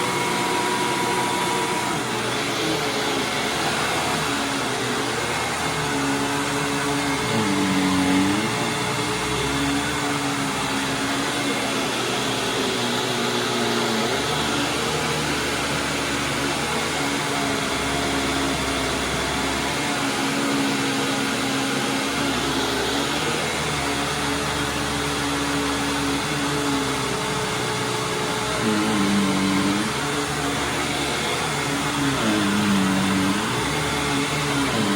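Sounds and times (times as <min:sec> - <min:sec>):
upright vacuum cleaner running: 0:00.0 - 0:34.9.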